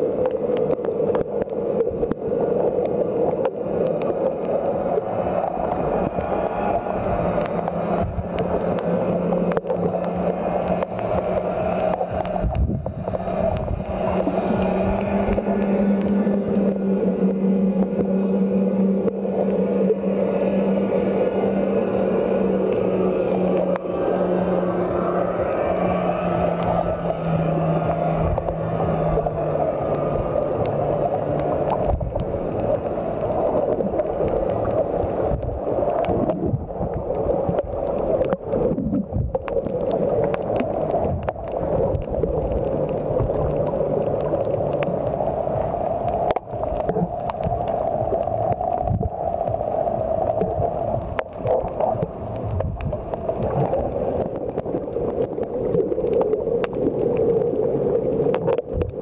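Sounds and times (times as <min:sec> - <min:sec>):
small clicks: 0:00.0 - 0:06.3, 0:07.0 - 0:16.8, 0:27.8 - 0:59.0
underwater water gurgling: 0:00.0 - 0:59.0.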